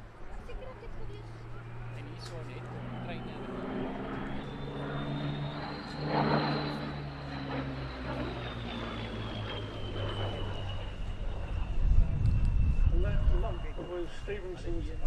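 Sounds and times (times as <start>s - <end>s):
propeller aircraft engine flying past: 0.0s - 15.0s.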